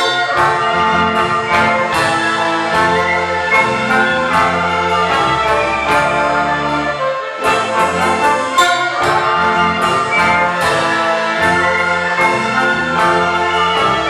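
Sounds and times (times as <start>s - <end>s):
symphony orchestra playing: 0.0s - 14.0s.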